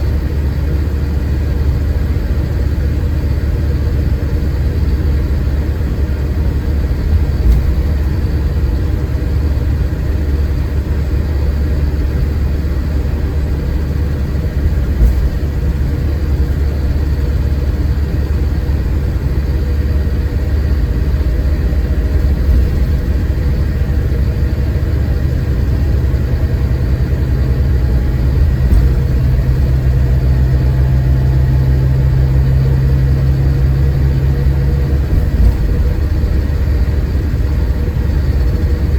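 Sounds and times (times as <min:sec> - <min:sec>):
coach engine rumble: 0:00.0 - 0:38.9
steady low hum: 0:00.0 - 0:38.9.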